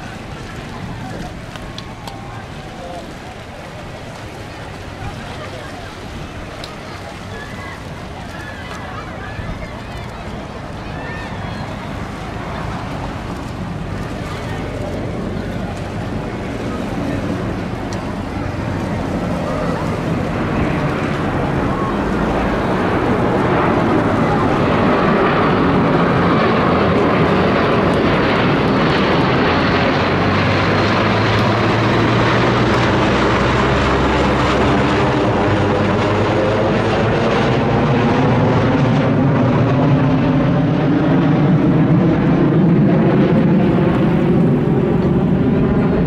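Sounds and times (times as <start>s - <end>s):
jet engines passing overhead: 0.0s - 46.0s.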